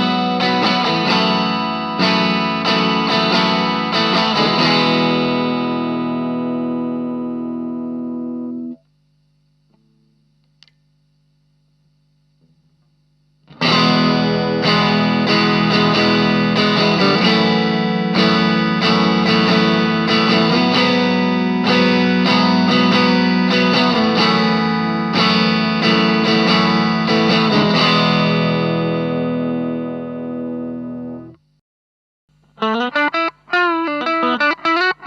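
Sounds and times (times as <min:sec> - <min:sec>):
overdriven electric guitar chords: 0:00.0 - 0:10.1, 0:12.4 - 0:31.6, 0:32.3 - 0:35.0
low amp hum: 0:00.0 - 0:31.6, 0:32.3 - 0:35.0.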